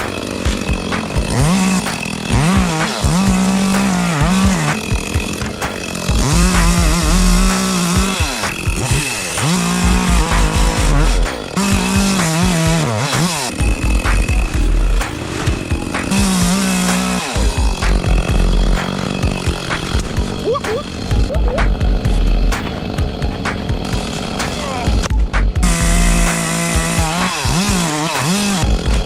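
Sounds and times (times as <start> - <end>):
chainsaw revving and cutting wood: 0.0 - 29.0.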